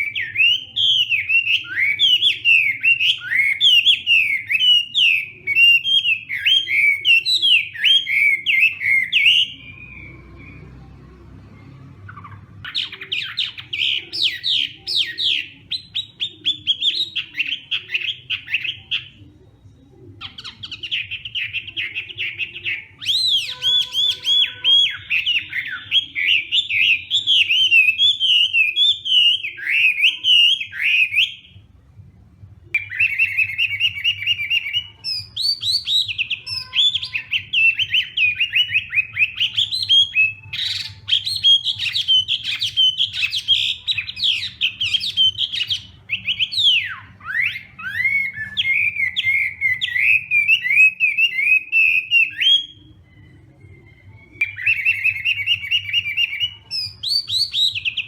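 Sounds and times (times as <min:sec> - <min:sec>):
songbird whistling phrases: 0:00.0 - 0:31.8, 0:32.6 - 0:58.0
faint low hum: 0:00.0 - 0:58.0.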